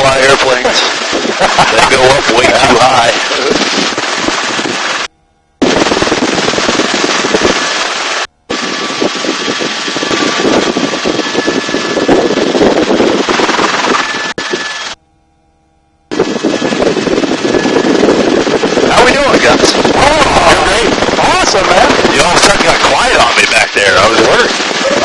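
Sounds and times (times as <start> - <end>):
helicopter rotor and engine: 0.0 - 15.0, 16.1 - 25.0
wind rushing on microphone: 0.0 - 15.0, 16.1 - 25.0.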